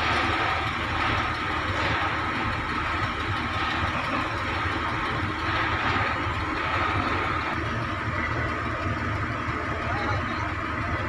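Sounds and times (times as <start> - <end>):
vibratory pile hammer drone: 0.0 - 11.0.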